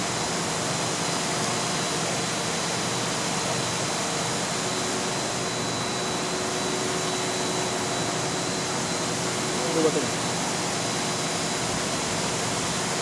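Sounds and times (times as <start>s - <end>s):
condenser fans rushing: 0.0s - 13.0s
faint high whine: 0.0s - 13.0s.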